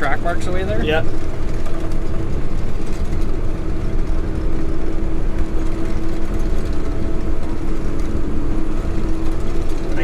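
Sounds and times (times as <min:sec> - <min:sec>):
constant steady hum: 0:00.0 - 0:10.0
diesel engine running: 0:00.0 - 0:10.0.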